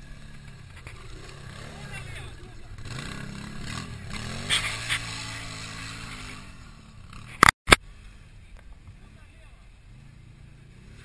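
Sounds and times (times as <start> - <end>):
quad bike engine passing: 0.0 - 11.0.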